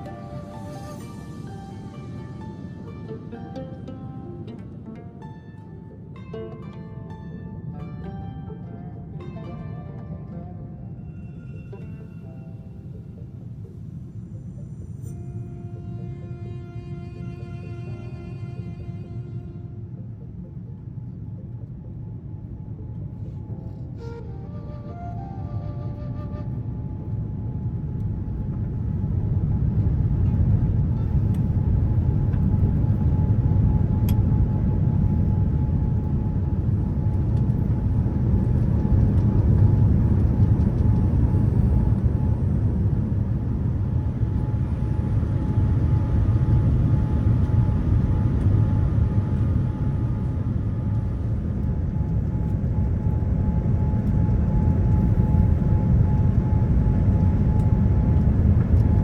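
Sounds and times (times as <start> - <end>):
jet cabin engine rumble: 0.0 - 6.5, 10.4 - 59.0.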